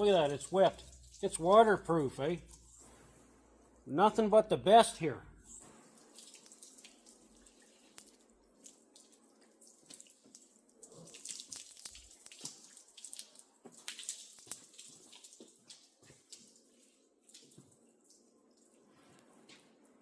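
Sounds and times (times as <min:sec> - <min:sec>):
water splashing on car hood: 0:00.0 - 0:03.8, 0:05.5 - 0:18.2
water dripping: 0:00.0 - 0:20.0.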